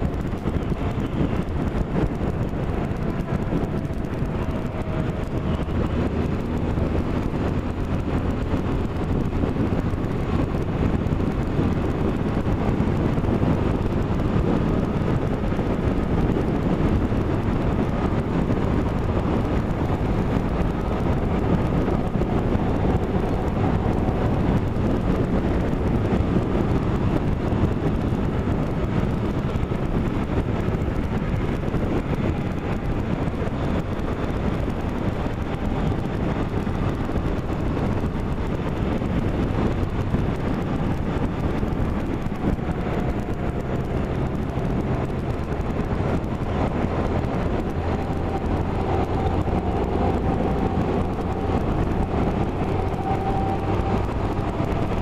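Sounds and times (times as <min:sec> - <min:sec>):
road vehicle running: 0:00.0 - 0:55.0
wind buffeting microphone: 0:00.0 - 0:55.0.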